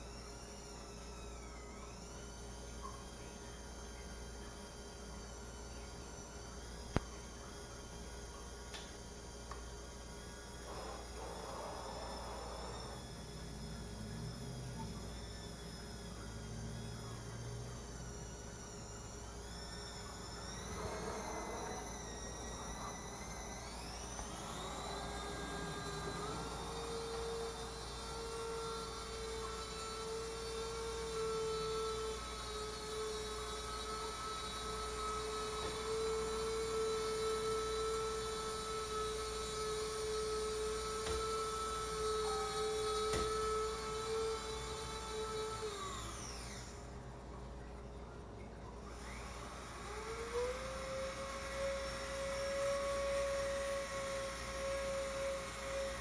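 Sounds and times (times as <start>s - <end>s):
winch motor whining: 0.0s - 47.7s, 48.7s - 56.0s.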